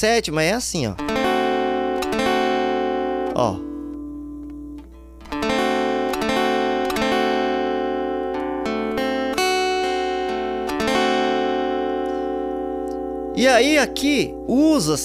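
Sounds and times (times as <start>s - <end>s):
acoustic guitar strumming: 1.0s - 15.0s.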